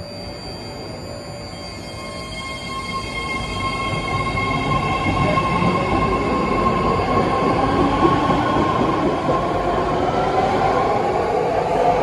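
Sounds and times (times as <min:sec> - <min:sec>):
electric train rumble: 0:00.0 - 0:12.0
steady high whine: 0:00.0 - 0:12.0.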